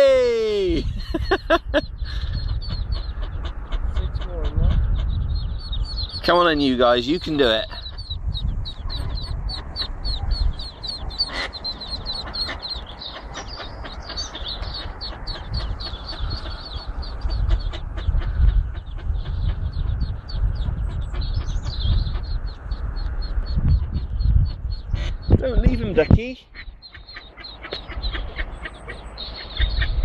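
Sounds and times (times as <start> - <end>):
ducklings peeping: 0.2 - 30.0
low rumble: 0.8 - 6.6, 7.5 - 30.0.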